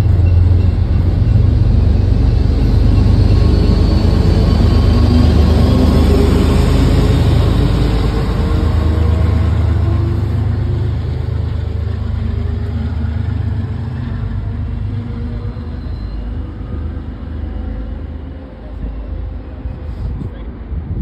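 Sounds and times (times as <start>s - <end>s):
diesel locomotive engine rumbling: 0.0s - 21.0s.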